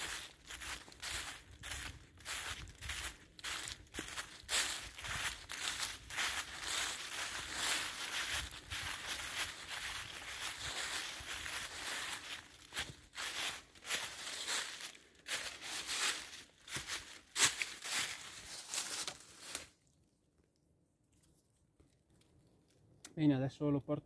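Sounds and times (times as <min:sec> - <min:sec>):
footsteps crunching dry leaves: 0:00.0 - 0:19.8.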